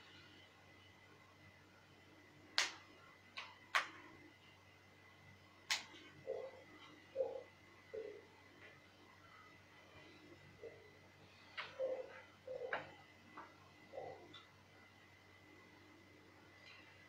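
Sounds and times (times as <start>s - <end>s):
faint high-pitched hum: 0.0s - 17.0s.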